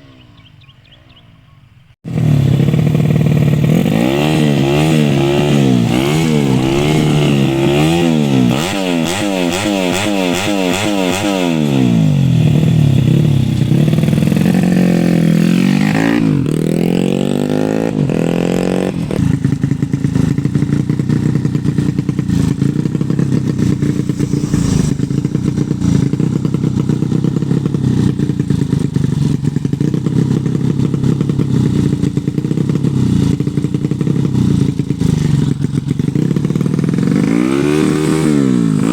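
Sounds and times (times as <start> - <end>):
motorcycle engine revving: 2.1 - 38.9.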